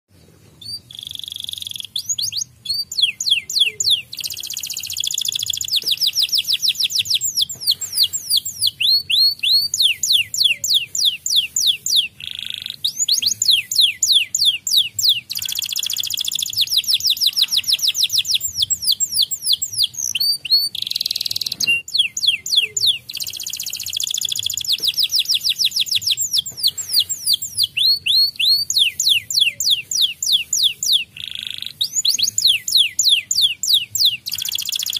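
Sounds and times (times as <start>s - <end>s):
canary singing trills: 0.6s - 34.9s.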